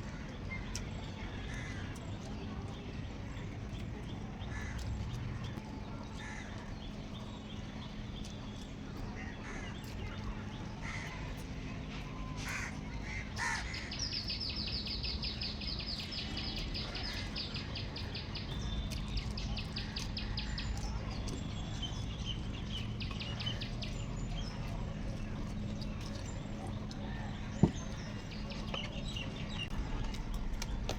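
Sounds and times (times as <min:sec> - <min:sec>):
birds calling: 0:00.0 - 0:30.9
steady low hum: 0:00.0 - 0:30.9.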